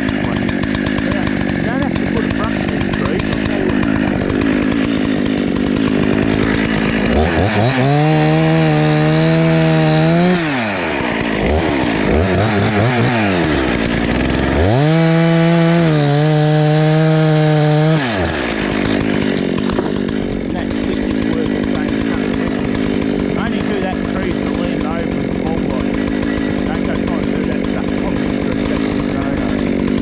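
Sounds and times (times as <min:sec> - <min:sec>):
chainsaw idling and revving: 0:00.0 - 0:30.0.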